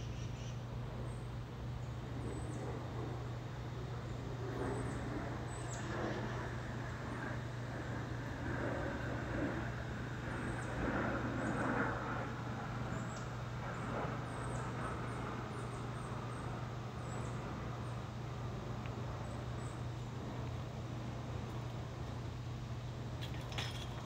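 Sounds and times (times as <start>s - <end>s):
low constant hum: 0.0s - 24.0s.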